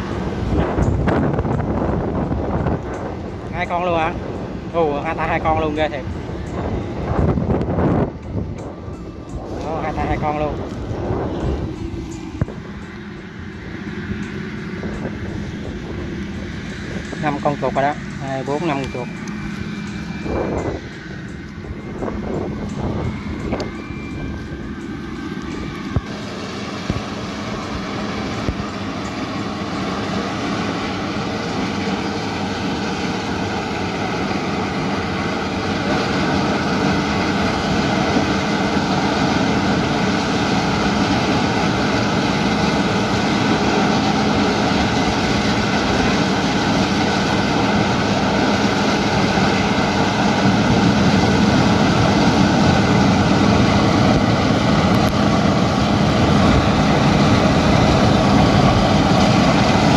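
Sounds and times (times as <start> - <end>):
large engine humming: 0.0 - 59.9.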